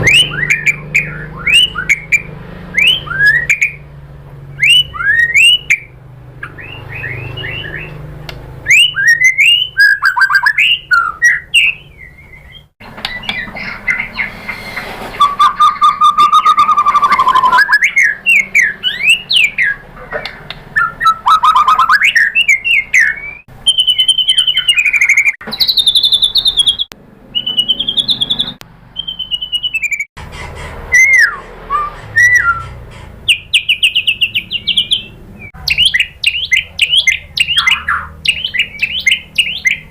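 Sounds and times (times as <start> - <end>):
songbird singing whistles and trills: 0.0 - 3.8, 4.6 - 8.0, 8.6 - 19.8, 20.7 - 30.1, 30.9 - 32.7, 33.3 - 39.9.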